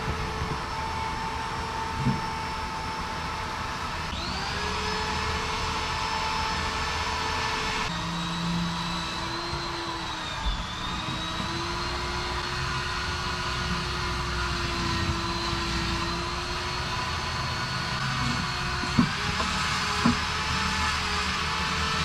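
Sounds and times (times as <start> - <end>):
machine whirring: 0.0 - 22.0.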